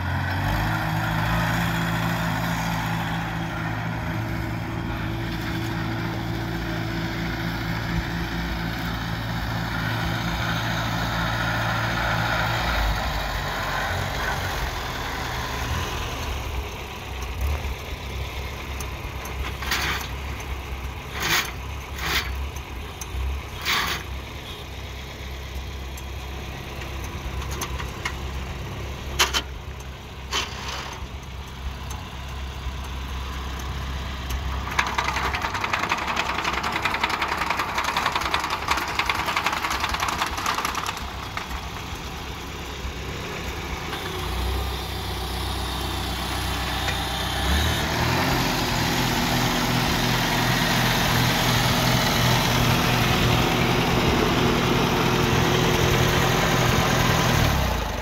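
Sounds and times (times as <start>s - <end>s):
loud mechanical noise: 0.0s - 25.1s, 34.1s - 58.0s
tractor engine idling: 0.0s - 58.0s.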